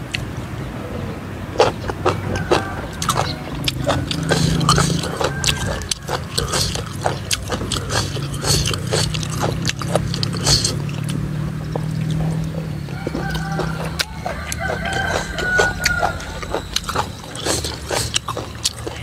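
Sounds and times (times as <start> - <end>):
low steady hum: 0.0 - 19.0
wet chewing and lip-smacking: 1.6 - 19.0.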